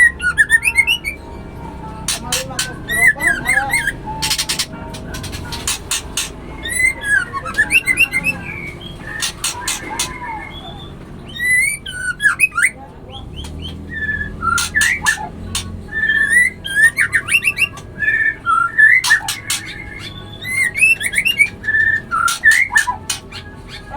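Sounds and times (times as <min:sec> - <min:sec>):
bird singing whistled phrases: 0:00.0 - 0:01.4, 0:02.0 - 0:23.9.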